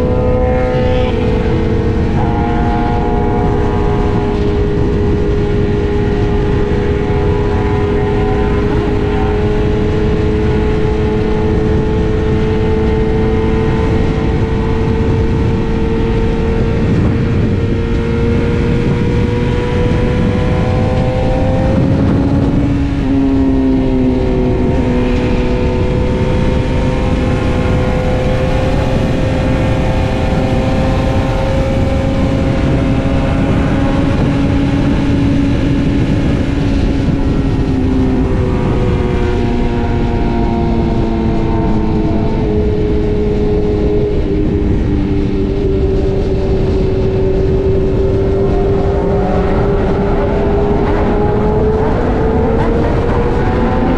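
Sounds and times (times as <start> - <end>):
heavy wind rush: 0.0 - 53.9
sport bike engine pulling hard: 0.0 - 53.9.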